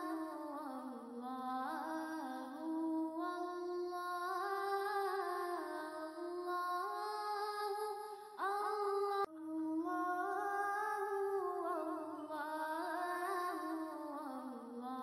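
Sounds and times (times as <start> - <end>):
wordless vocal music: 0.0 - 15.0.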